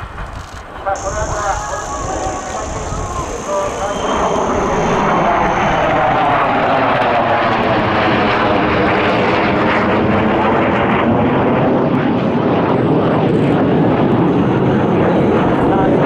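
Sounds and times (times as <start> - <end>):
fighter jets passing overhead: 0.0 - 16.0.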